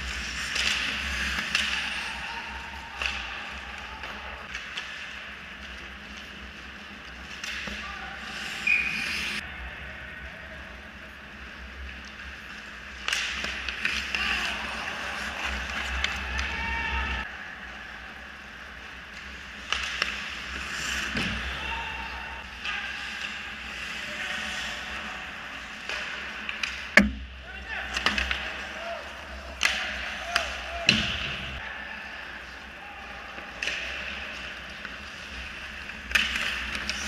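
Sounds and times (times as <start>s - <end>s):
hockey sticks clacking on ice: 0.0s - 9.4s, 11.8s - 17.0s, 18.9s - 31.6s, 33.2s - 37.0s
skates scraping on ice: 0.0s - 9.5s, 11.2s - 17.3s, 18.8s - 27.0s, 27.8s - 37.0s.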